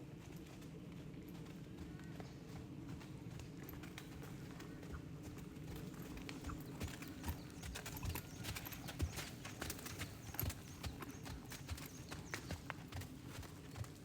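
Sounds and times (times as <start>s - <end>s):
horse hoofbeats: 0.0s - 14.0s.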